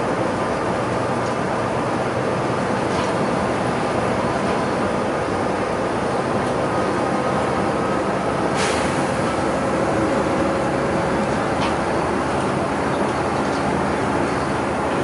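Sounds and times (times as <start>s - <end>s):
bus engine and tyre drone: 0.0s - 15.0s.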